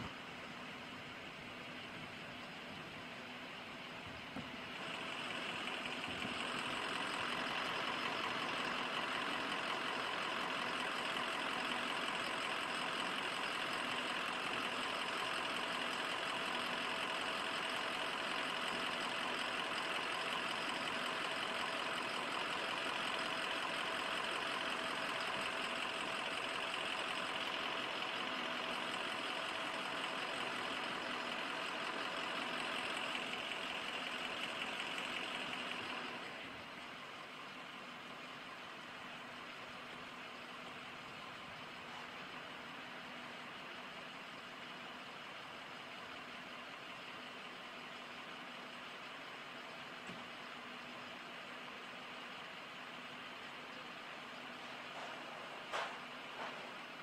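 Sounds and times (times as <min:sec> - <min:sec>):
fire engine idling: 0:00.0 - 0:57.0.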